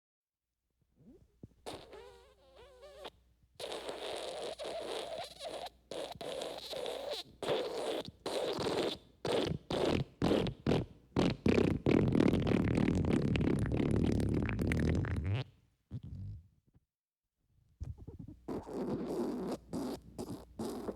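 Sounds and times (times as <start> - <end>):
wet spluttering farts: 1.7 - 16.4, 17.9 - 20.9.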